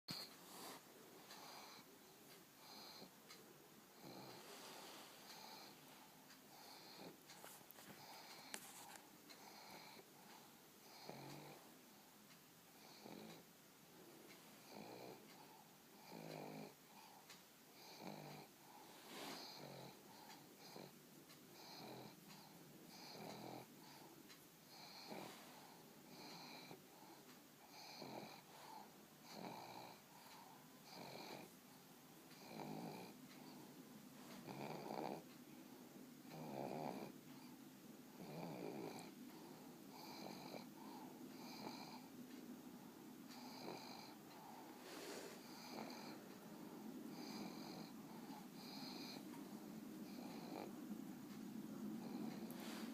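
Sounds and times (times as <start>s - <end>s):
dog snoring softly: 0.1s - 12.1s, 12.7s - 52.9s.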